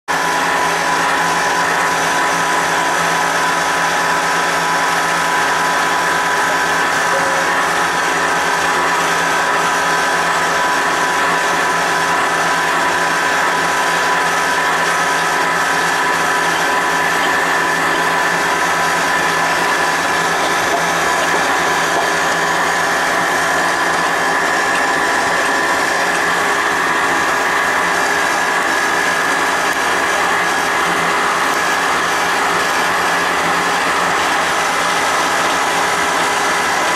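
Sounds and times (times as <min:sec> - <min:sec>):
construction machine hum with whining tones: 0:00.0 - 0:36.9.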